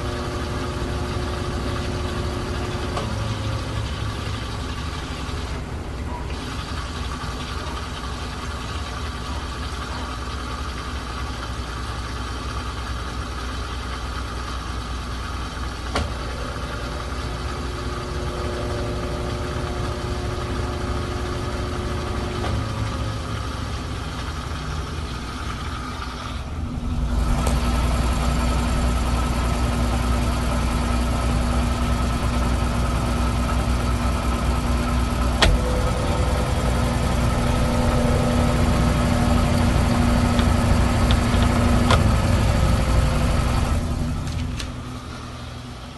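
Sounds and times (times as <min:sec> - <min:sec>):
washing machine spinning hum: 0:00.0 - 0:45.9.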